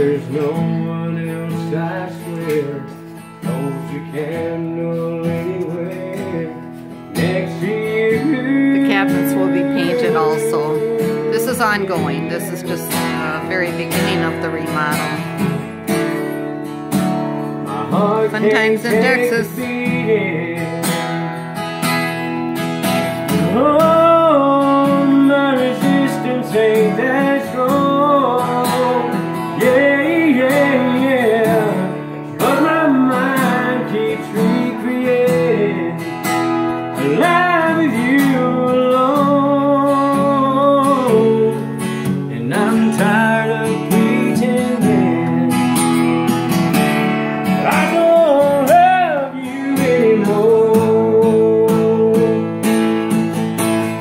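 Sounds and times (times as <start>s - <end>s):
man singing: 0.0s - 15.7s, 17.5s - 21.4s, 23.1s - 46.2s, 47.5s - 53.0s
acoustic guitar strumming: 0.0s - 54.0s.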